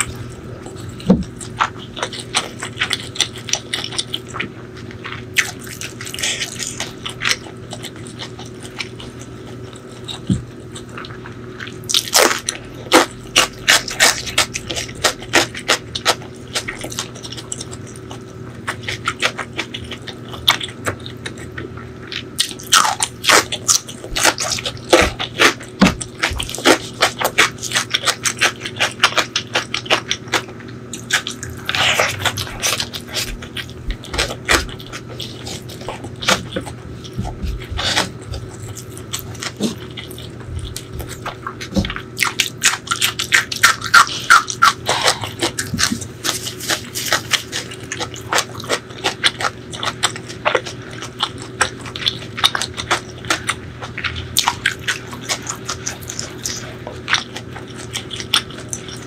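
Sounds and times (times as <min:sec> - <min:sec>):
person chewing wetly: 0:00.0 - 0:59.0.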